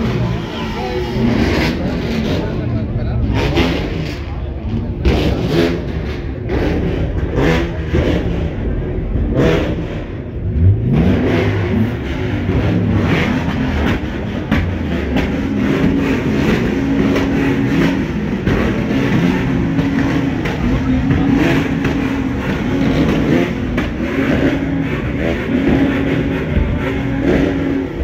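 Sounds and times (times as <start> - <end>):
car engine revving: 0.0 - 28.0
car engines running: 0.0 - 28.0.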